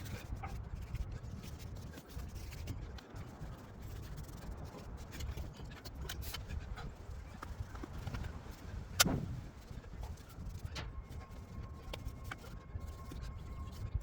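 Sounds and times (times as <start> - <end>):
brush rubbing and scraping: 0.0 - 14.0
wind rumble on microphone: 0.0 - 14.0.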